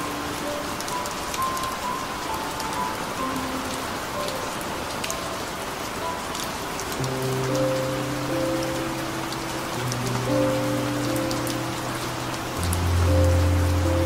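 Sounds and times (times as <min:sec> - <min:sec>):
soft sparse music: 0:00.0 - 0:14.0
steady rain falling: 0:00.0 - 0:14.0.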